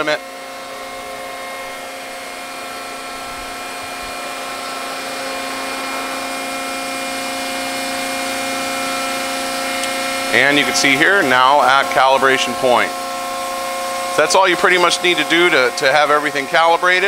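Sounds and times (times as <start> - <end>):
hydraulic press humming: 0.0 - 17.0.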